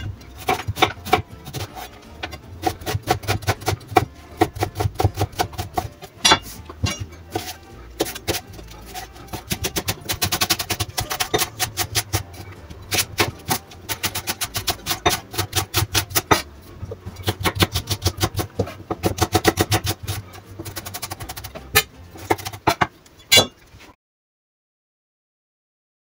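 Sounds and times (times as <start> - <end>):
knife chopping on wooden board: 0.4 - 12.3, 12.9 - 16.5, 17.2 - 23.5.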